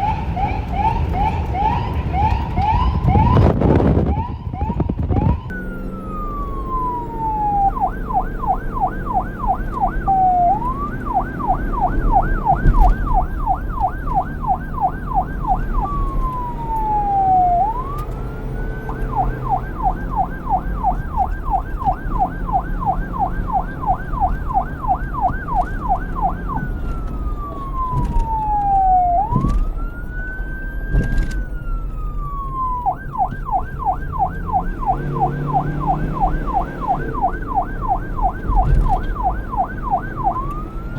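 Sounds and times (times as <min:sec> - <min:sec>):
police siren yelp and wail: 0:00.0 - 0:40.9.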